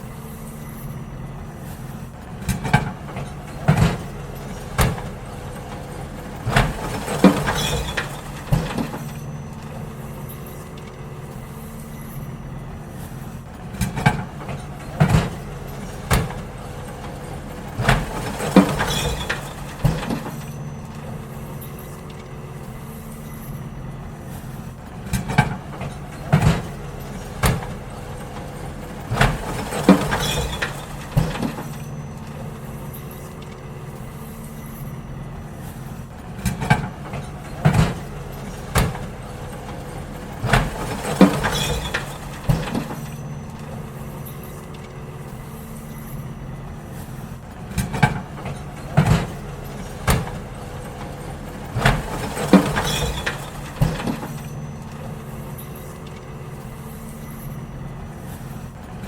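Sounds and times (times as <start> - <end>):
bins banging and clattering: 0.0 - 59.0
garbage truck engine running: 0.0 - 59.0.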